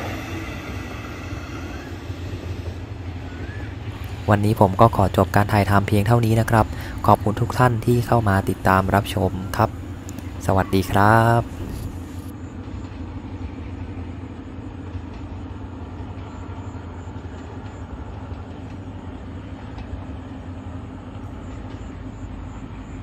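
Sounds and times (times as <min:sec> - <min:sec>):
diesel train engine drone: 0:00.0 - 0:23.0
train rumbling: 0:00.0 - 0:23.0.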